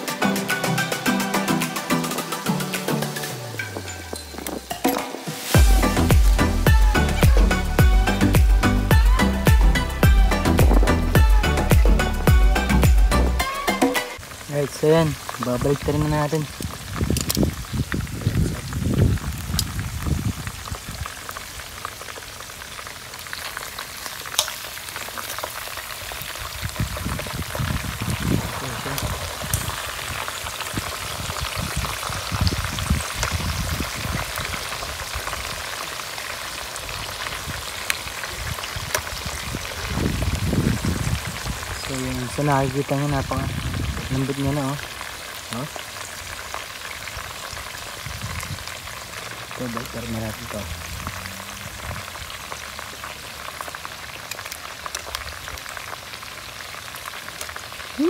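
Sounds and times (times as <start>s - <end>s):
food sizzling in hot oil: 0.0s - 58.0s.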